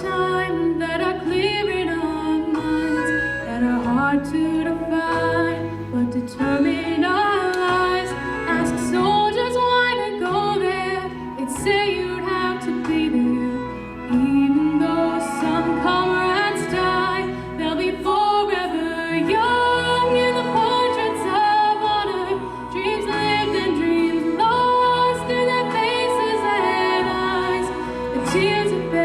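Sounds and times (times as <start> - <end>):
instrumental accompaniment: 0.0 - 29.0.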